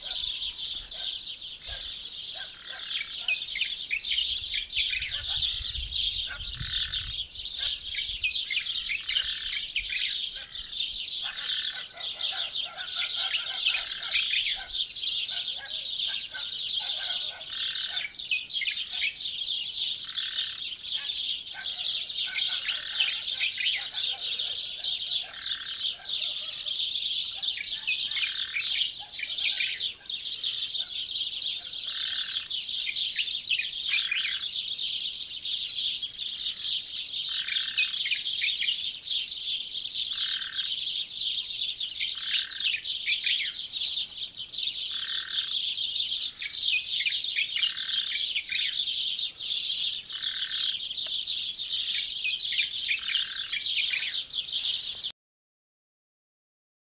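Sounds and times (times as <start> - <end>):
many small birds chirping: 0.0 - 55.1.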